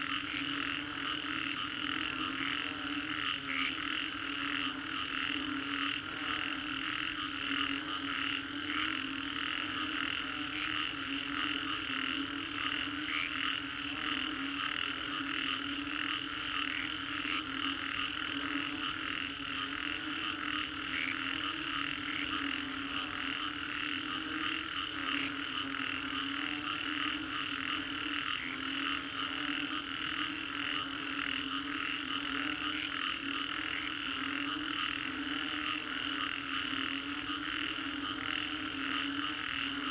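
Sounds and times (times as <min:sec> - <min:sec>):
low steady frog calls: 0:00.0 - 0:39.9
rapid pulsed frog calls: 0:00.0 - 0:39.9.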